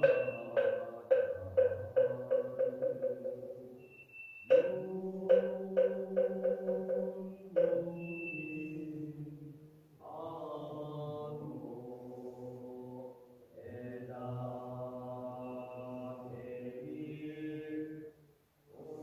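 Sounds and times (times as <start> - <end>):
low-pitched chanting: 0.0 - 3.8, 4.4 - 19.0.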